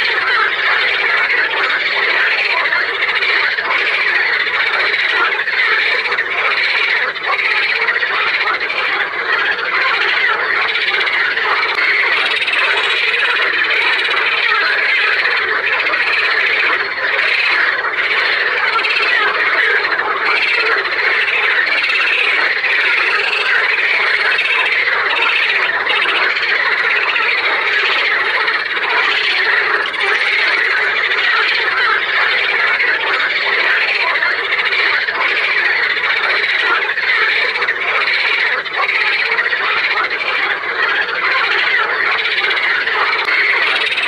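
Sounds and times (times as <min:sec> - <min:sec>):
frogs croaking in chorus: 0:00.0 - 0:44.0.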